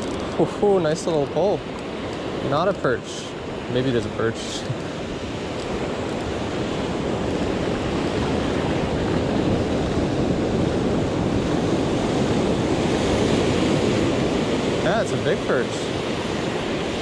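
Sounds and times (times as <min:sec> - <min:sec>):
ocean surf breaking: 0:00.0 - 0:17.0
wind on the microphone: 0:03.3 - 0:17.0.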